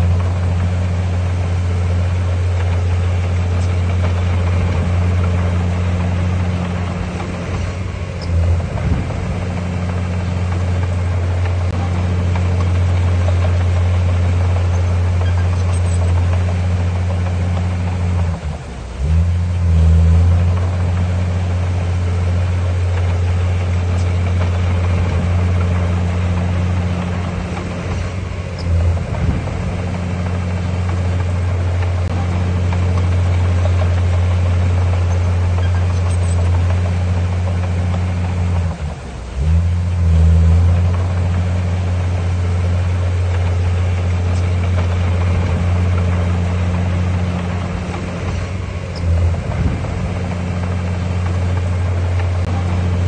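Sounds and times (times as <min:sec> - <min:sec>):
heavy diesel engine under load: 0:00.0 - 0:53.0.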